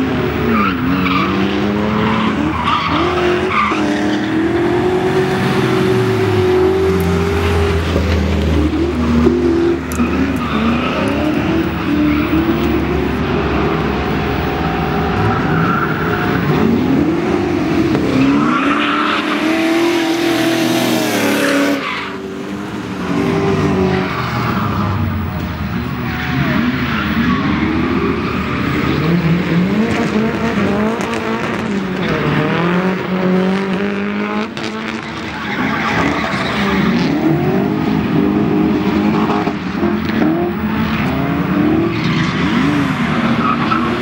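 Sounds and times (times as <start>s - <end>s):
car engines revving hard: 0.0s - 44.0s.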